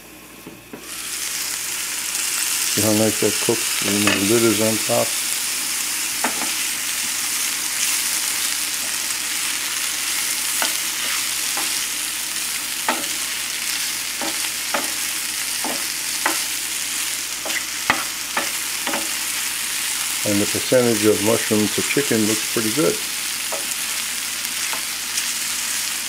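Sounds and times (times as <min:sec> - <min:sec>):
meat sizzling in a skillet: 0:00.8 - 0:26.0.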